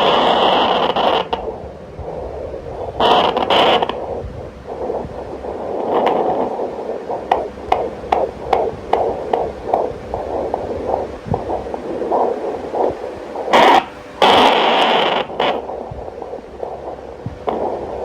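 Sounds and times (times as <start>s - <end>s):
fetal heartbeat whooshing pulse: 0.0s - 18.0s
steady hiss: 0.0s - 18.0s.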